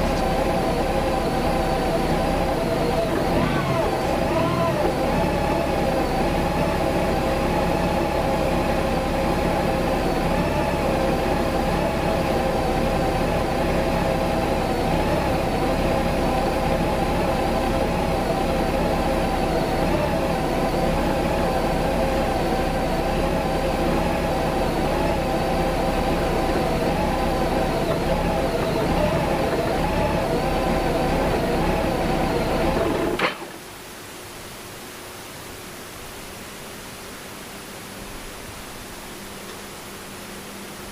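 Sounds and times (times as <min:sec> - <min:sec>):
motorcycle engine idling roughly: 0:00.0 - 0:33.5.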